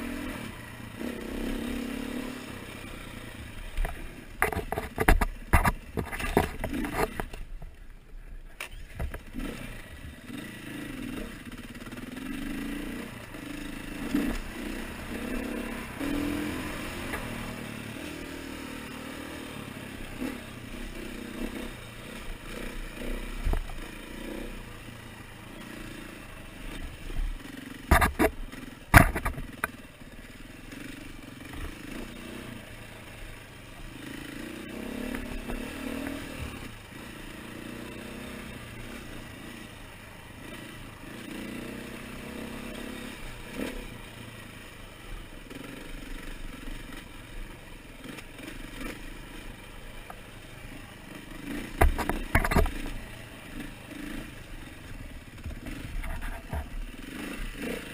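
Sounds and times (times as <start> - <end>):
dirt bike engine revving: 0.0 - 7.4, 8.6 - 57.9.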